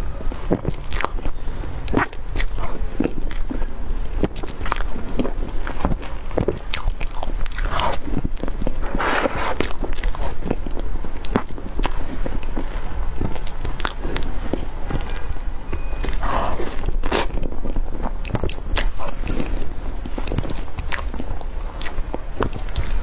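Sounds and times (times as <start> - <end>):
wet mouth chewing sounds: 0.0 - 23.0.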